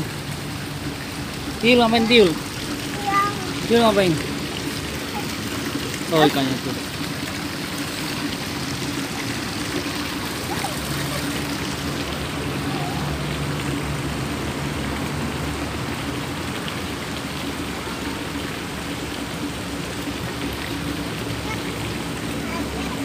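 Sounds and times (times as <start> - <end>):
running pool water: 0.0 - 23.0.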